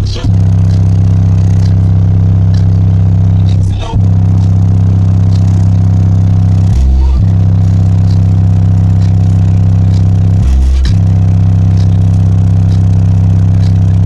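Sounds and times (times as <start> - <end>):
loud subwoofer bass notes: 0.0 - 14.0.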